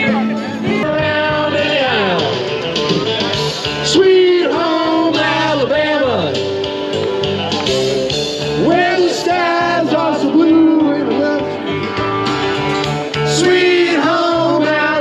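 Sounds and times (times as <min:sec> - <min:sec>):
guitar-backed track: 0:00.0 - 0:15.0
person singing karaoke: 0:00.0 - 0:15.0.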